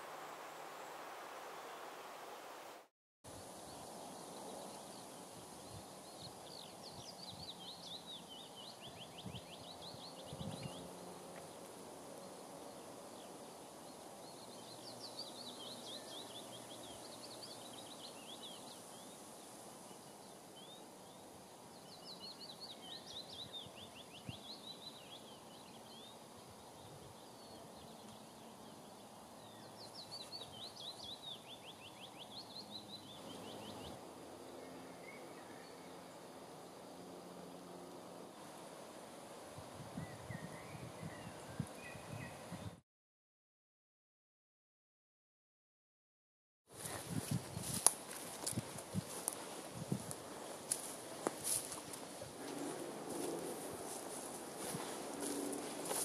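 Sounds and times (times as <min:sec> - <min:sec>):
faint outdoor hiss: 0:00.0 - 0:42.8, 0:46.7 - 0:56.0.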